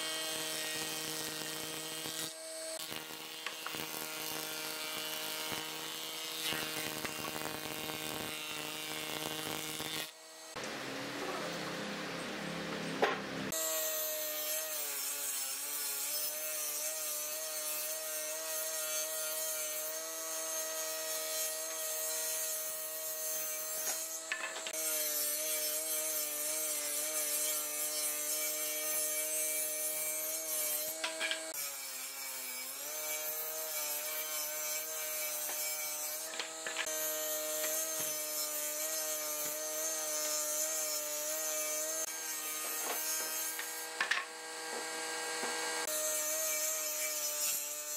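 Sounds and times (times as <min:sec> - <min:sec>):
cutters hissing on wood: 0:00.0 - 0:11.9, 0:21.1 - 0:47.9.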